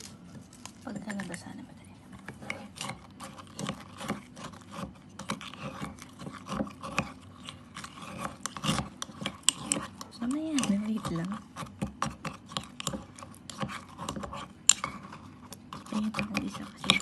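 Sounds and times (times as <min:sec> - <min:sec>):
utensil scraping and mashing cookies: 0:00.0 - 0:17.0.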